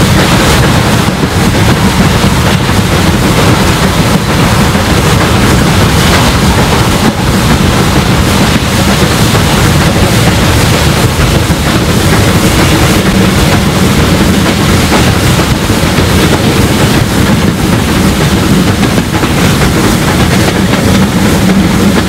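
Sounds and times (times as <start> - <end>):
steam locomotive exhaust rush: 0.0 - 22.0
wind buffeting microphone: 0.0 - 22.0.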